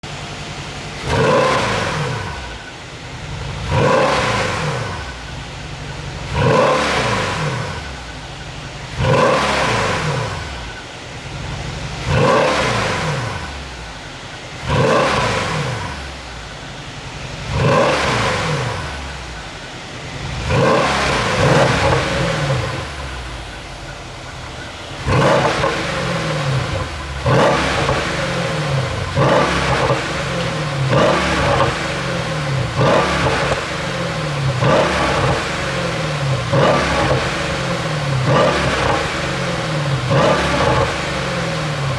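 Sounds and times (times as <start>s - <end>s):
car engine revving: 0.0s - 41.9s
exhaust pops and crackles: 0.0s - 41.9s.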